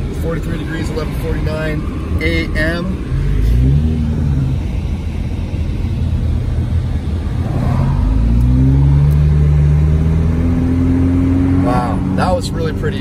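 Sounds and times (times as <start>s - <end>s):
car engine: 0.0s - 13.0s
tyre road noise: 0.0s - 13.0s.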